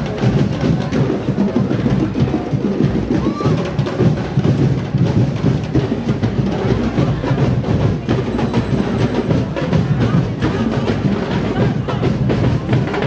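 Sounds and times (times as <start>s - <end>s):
drums and percussion playing: 0.0s - 13.0s.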